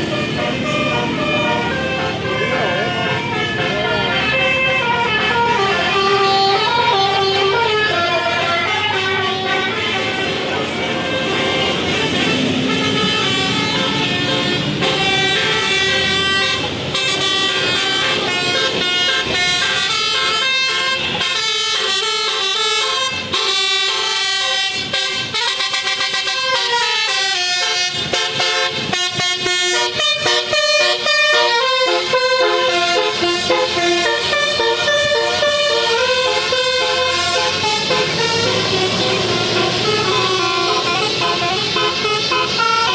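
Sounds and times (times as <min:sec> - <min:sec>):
bus engine running: 0:00.0 - 0:42.9
musical air horn melody: 0:00.0 - 0:42.9.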